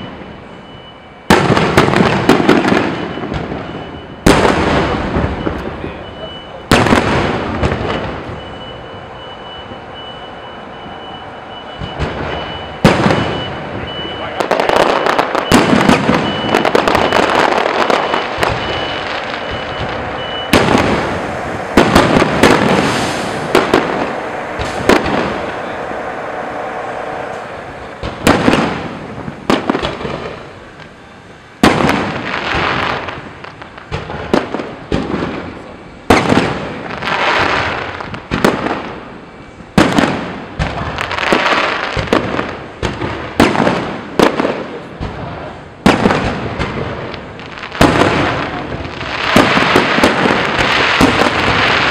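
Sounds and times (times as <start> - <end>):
fireworks bursting with crackle: 1.1 - 9.9, 10.6 - 51.9.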